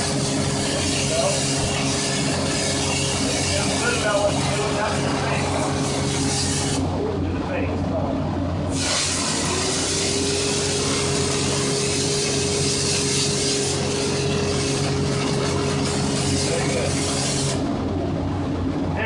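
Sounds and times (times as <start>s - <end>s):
dry ice blasting gun hissing: 0.0s - 6.8s, 8.7s - 17.6s
low hum: 0.0s - 19.0s.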